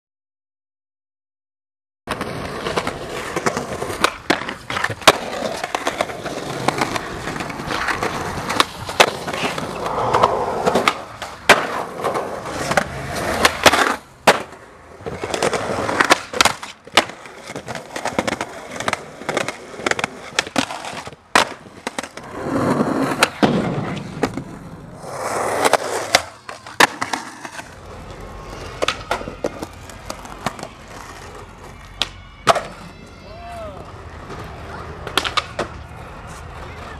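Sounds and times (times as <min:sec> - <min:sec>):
skateboard popping and landing: 0:02.1 - 0:33.0, 0:34.2 - 0:36.9
skateboard wheels rolling on concrete: 0:02.1 - 0:36.9.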